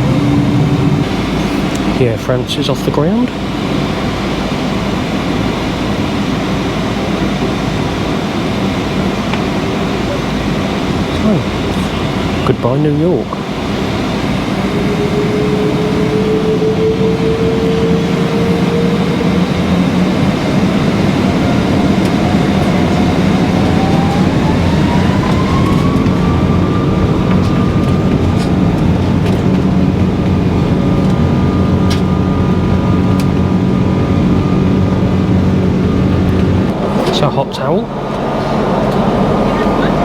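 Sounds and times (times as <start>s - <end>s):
jet engines roaring with whine: 0.0s - 40.0s.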